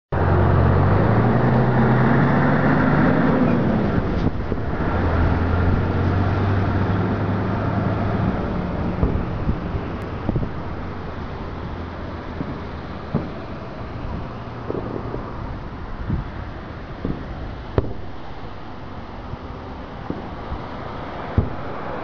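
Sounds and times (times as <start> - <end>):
road traffic engine rumble: 0.1 - 22.0.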